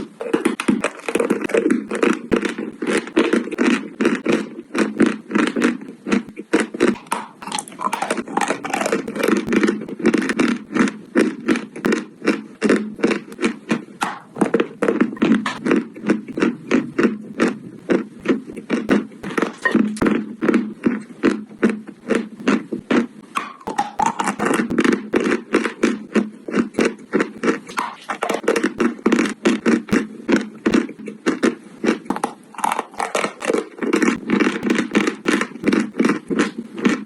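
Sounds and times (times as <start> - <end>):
chalk crunching being chewed: 0.0 - 37.0.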